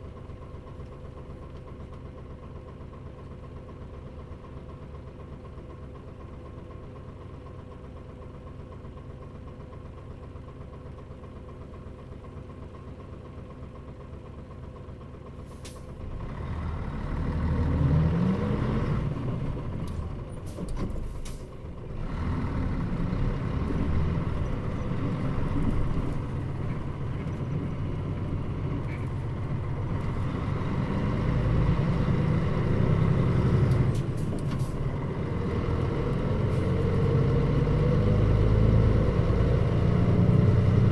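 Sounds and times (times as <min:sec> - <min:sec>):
bus engine running: 0:00.0 - 0:40.9.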